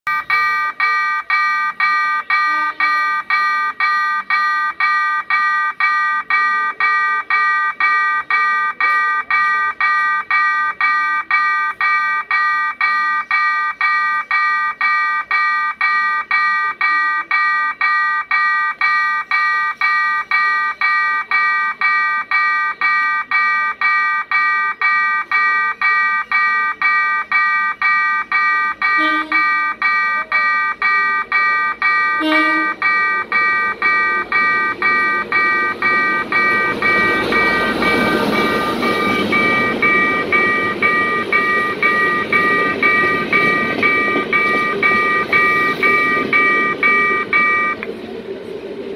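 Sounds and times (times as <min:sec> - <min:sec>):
level crossing warning bell: 0:00.1 - 0:48.0.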